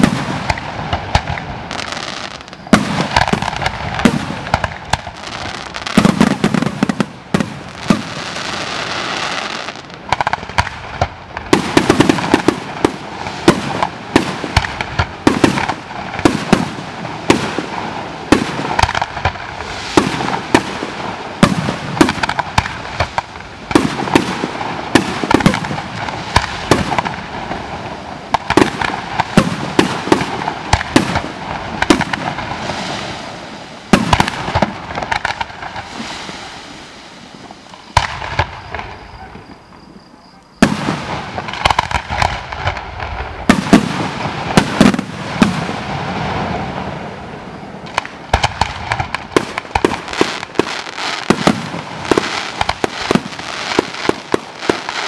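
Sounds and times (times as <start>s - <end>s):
fireworks bangs and crackles: 0.0s - 55.0s
fireworks hissing: 0.0s - 55.0s.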